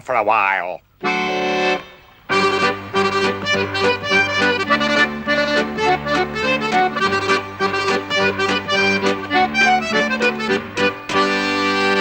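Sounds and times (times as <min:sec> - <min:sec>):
lively accordion tune: 0:01.0 - 0:12.0.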